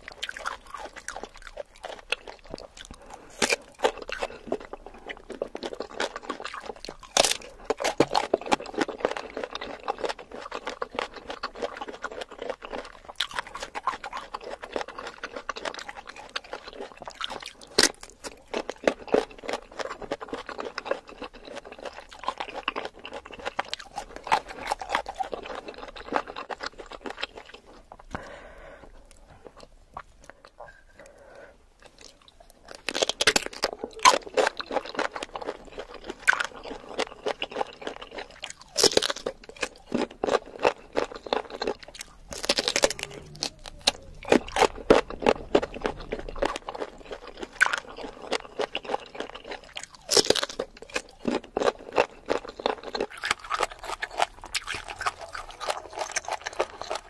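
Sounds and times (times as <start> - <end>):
chewing crisp food: 0.0 - 57.0.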